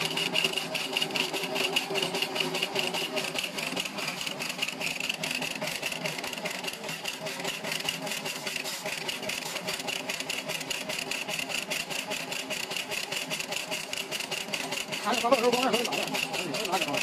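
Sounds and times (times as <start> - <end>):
peeling machine clattering: 0.0 - 17.0.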